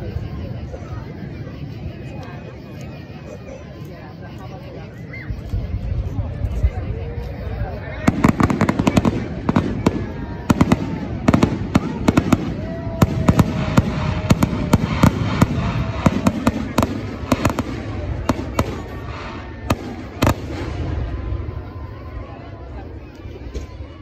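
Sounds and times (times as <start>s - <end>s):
continuous rumble: 0.0s - 24.0s
fireworks bangs and crackles: 4.7s - 24.0s.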